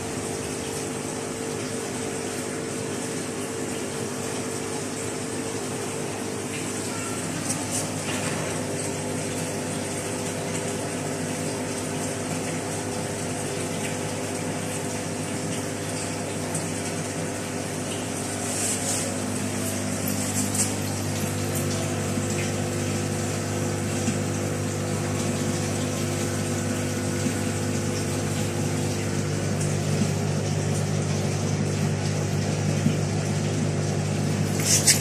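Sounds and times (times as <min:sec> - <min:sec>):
aquarium pumps humming: 0:00.0 - 0:35.0
circulating water: 0:00.0 - 0:35.0.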